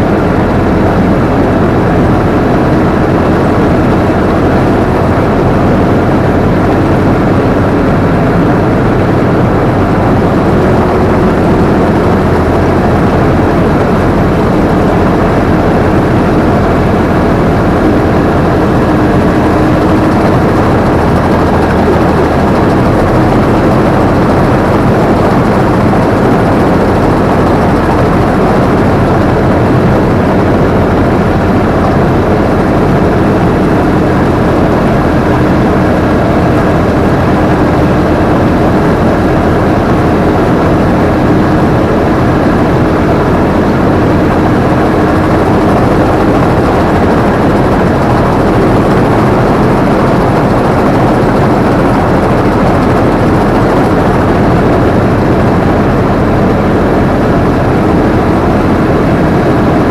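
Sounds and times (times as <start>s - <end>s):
combine harvester engine and threshing: 0.0s - 59.9s
low hum: 0.0s - 59.9s.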